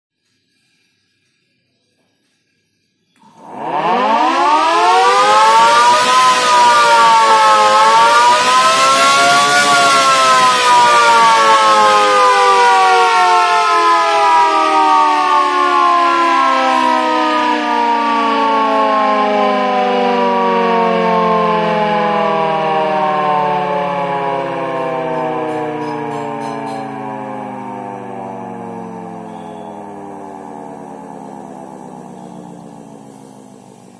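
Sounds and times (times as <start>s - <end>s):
electric motor siren winding: 3.2s - 33.9s.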